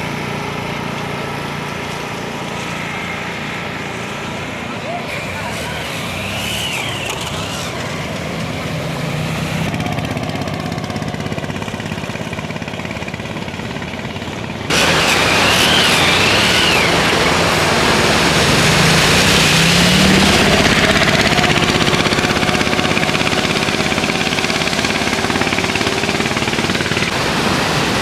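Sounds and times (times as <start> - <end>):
autorickshaw engine running: 0.0 - 28.0.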